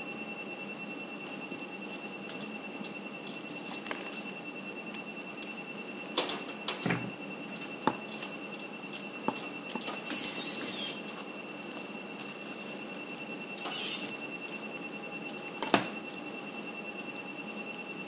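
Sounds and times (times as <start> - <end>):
high-pitched whine: 0.0 - 18.0.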